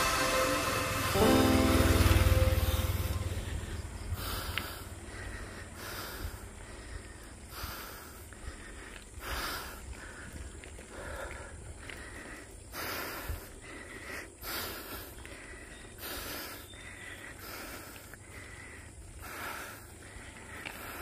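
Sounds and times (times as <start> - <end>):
person breathing hard: 3.4 - 21.0.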